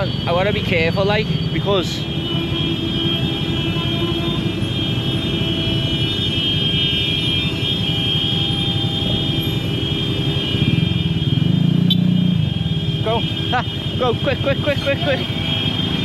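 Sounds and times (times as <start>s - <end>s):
busy road traffic: 0.0s - 16.0s.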